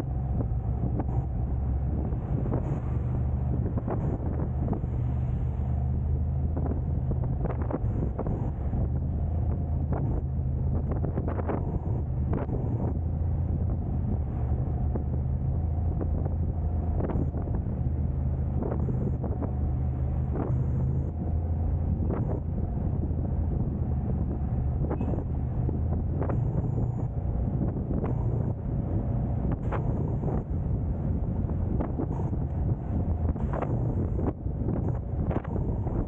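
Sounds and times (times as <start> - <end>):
car engine and road noise: 0.0 - 36.0
wind buffeting microphone: 0.0 - 36.0.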